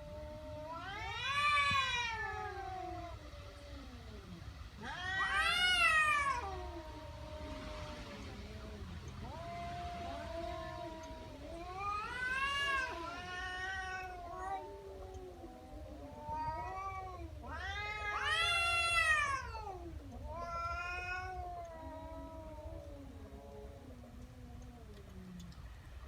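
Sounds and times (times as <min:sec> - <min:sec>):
cat yowling: 0:00.0 - 0:08.0, 0:09.2 - 0:23.9.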